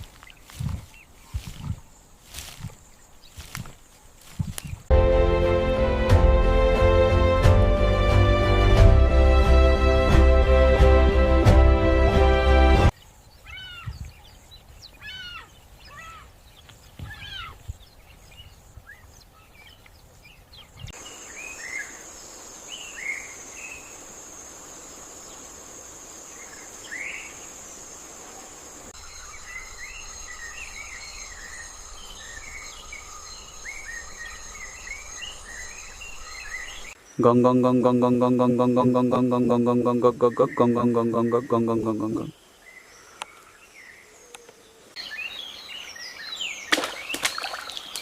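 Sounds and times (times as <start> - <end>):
birds chirping: 0.0 - 4.9, 12.9 - 48.0.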